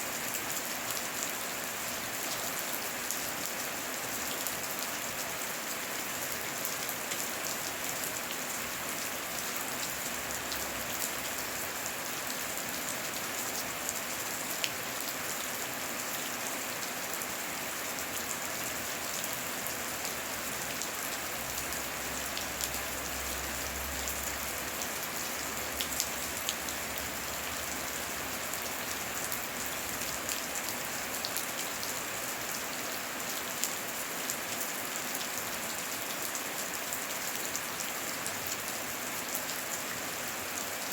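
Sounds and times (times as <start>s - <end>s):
heavy rain falling: 0.1s - 40.9s.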